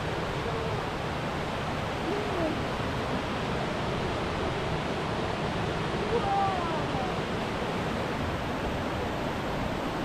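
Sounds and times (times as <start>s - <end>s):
fast-flowing water rushing: 0.0s - 10.0s.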